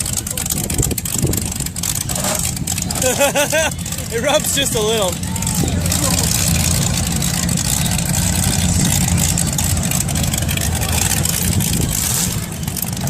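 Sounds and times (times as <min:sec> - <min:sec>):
car engines revving: 0:00.0 - 0:13.0
rattle and clatter: 0:00.0 - 0:13.0.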